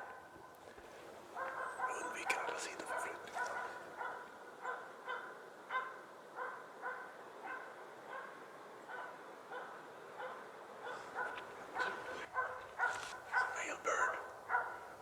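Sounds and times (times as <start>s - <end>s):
dog barking: 1.3s - 15.0s.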